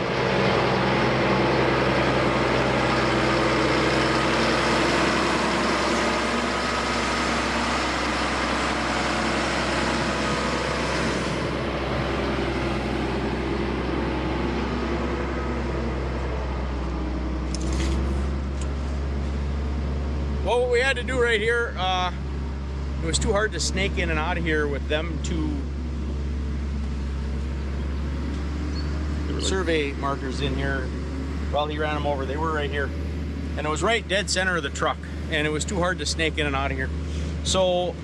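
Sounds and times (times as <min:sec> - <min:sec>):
heavy truck engine running: 0:00.0 - 0:38.0.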